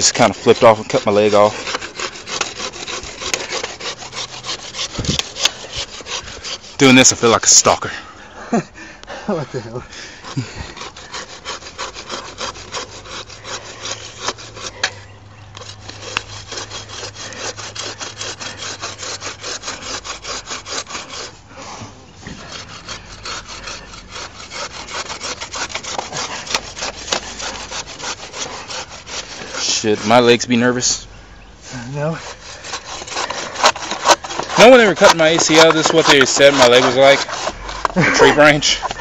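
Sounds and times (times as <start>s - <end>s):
hand saw cutting wood: 0.0s - 8.0s, 9.9s - 31.0s, 31.7s - 39.0s.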